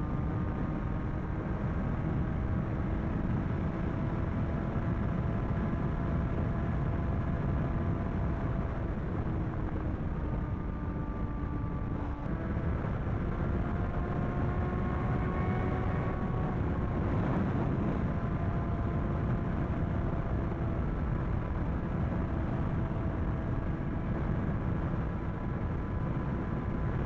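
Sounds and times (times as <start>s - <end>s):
motorcycle engine cruising: 0.0s - 27.0s
wind rush: 0.0s - 27.0s.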